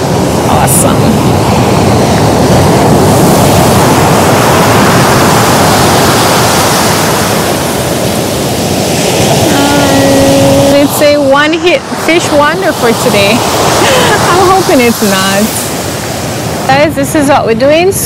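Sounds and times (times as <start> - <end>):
sea surf washing onto beach: 0.0 - 18.0.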